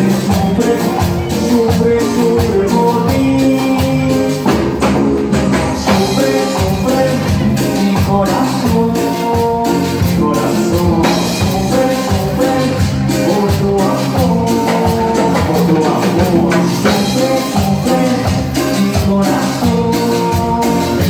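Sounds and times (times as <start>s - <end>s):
latin band playing: 0.0s - 21.0s
person singing: 0.0s - 21.0s.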